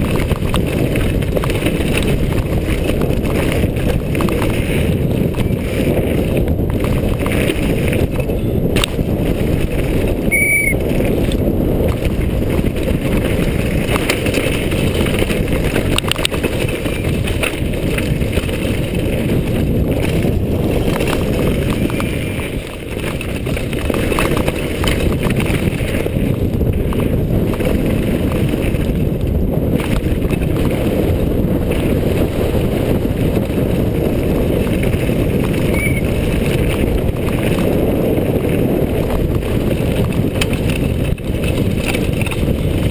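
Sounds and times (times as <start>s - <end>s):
mountain bike rattling: 0.0s - 42.9s
wind rumble on microphone: 0.0s - 42.9s.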